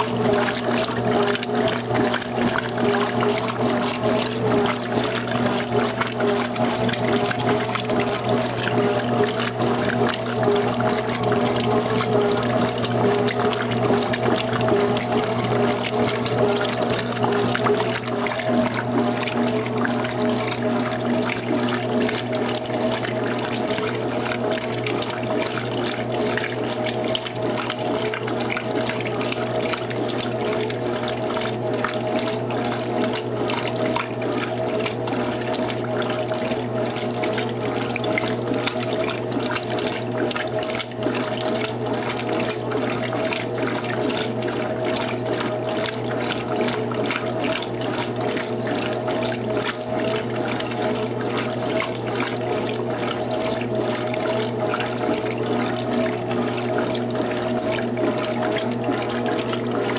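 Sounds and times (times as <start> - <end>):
water sloshing in washing machine: 0.0 - 59.9.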